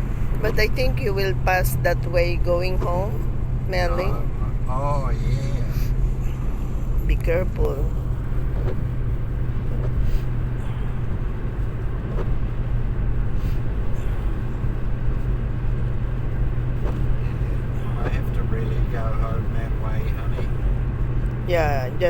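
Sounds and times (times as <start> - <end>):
car road noise drone: 0.0 - 22.0.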